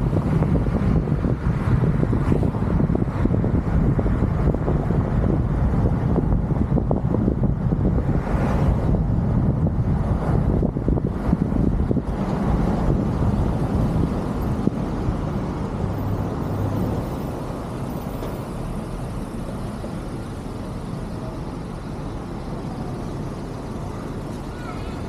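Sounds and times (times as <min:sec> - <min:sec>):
car tyre and wind noise: 0:00.0 - 0:25.0
low steady traffic rumble: 0:00.0 - 0:25.0.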